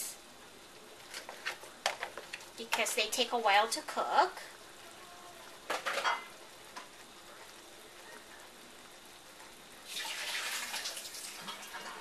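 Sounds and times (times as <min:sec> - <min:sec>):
stew simmering and sizzling in pan: 0:00.0 - 0:12.0.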